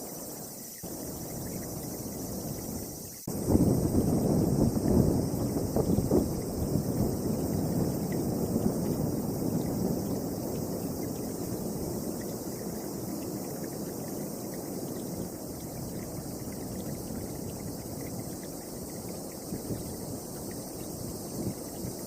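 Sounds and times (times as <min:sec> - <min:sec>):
storm wind blowing: 0:00.8 - 0:22.0.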